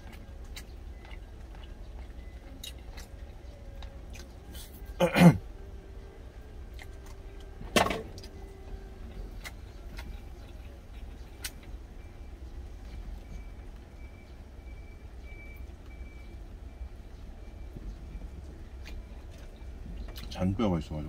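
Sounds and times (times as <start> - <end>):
low rumble in truck cab: 0.0 - 21.0.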